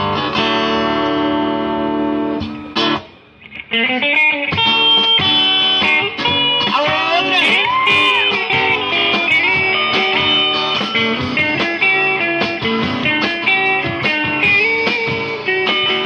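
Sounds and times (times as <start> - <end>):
electric guitar melodic runs: 0.0 - 16.0
live band backing: 0.0 - 16.0.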